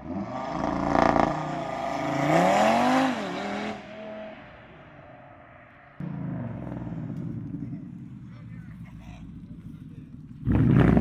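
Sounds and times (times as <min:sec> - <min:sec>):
car engine revving: 0:00.0 - 0:11.0
another engine: 0:02.2 - 0:11.0.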